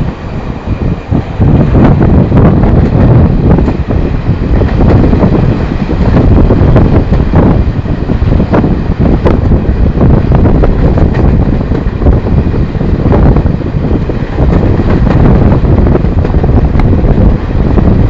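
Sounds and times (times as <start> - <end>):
train low rumble: 0.0 - 18.0
wind buffeting microphone: 0.0 - 18.0
train wheels clicking over rail joints: 2.5 - 18.0.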